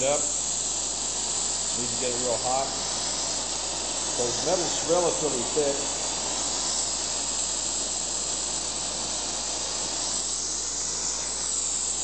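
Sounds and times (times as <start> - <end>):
welding torch hissing flame: 0.0 - 12.0.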